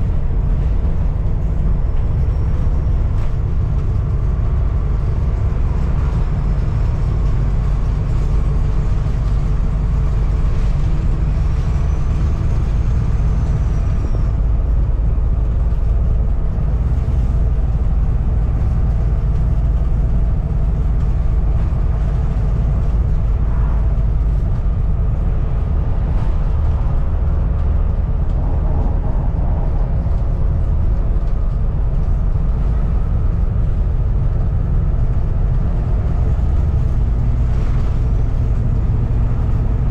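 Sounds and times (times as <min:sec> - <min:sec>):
bus body rattling: 0:00.0 - 0:39.9
bus diesel engine running: 0:00.0 - 0:39.9.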